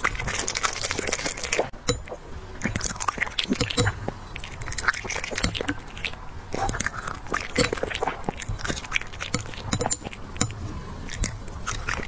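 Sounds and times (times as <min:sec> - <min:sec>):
dog chewing and licking: 0:00.0 - 0:12.0.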